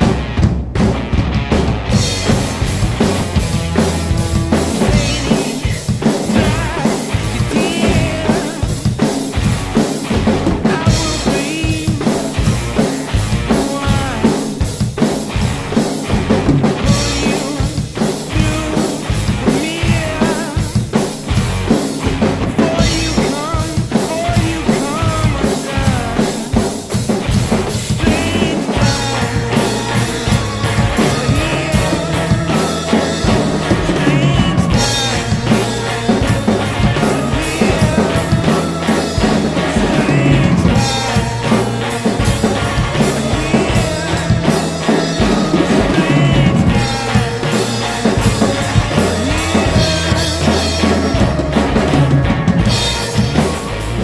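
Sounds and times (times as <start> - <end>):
guitar playing: 0.0 - 20.6, 21.2 - 54.0
drum kit rock beat: 0.0 - 54.0.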